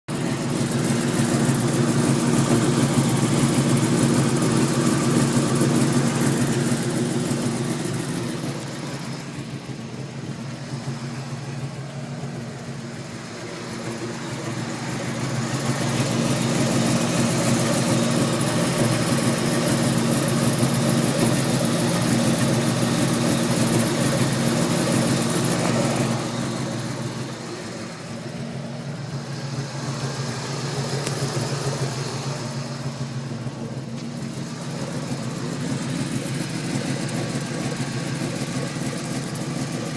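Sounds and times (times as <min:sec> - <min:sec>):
car engine idling: 0:00.0 - 0:39.9
engine ticking: 0:00.1 - 0:39.9.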